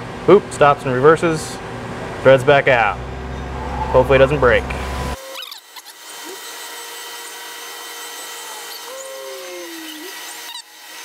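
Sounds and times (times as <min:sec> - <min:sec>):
machine whine: 0:01.7 - 0:11.0.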